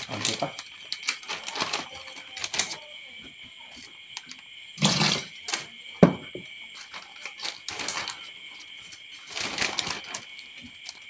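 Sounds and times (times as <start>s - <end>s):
plastic bag crinkling: 0.0s - 3.0s, 3.8s - 11.0s.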